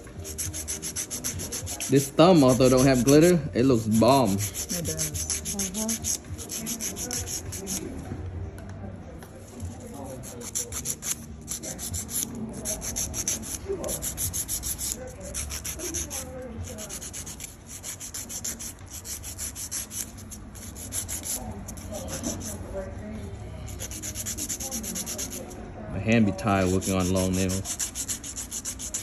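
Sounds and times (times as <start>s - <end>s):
nail file rasping on nail: 0.0s - 7.9s, 9.6s - 22.6s, 23.7s - 25.6s, 26.2s - 29.0s.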